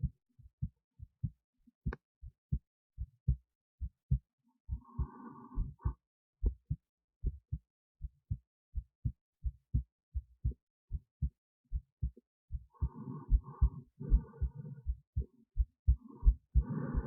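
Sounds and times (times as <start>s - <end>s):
heartbeat thumps: 0.0s - 17.0s.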